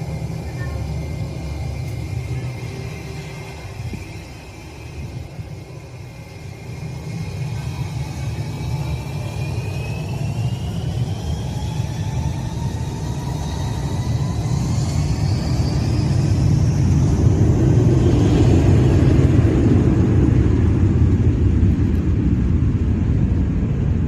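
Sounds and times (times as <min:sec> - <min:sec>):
jet engines spooling up: 0:00.0 - 0:24.0.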